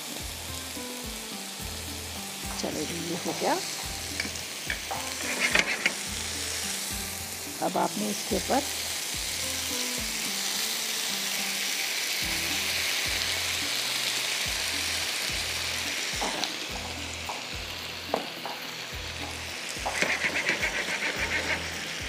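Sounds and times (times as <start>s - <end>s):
meat sizzling on a grill pan: 0.0s - 22.0s.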